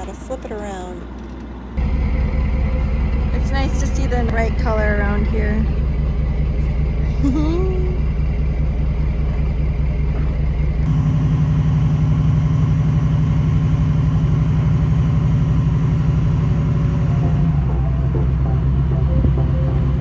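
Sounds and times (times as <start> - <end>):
farm machinery engine running: 0.0 - 20.0.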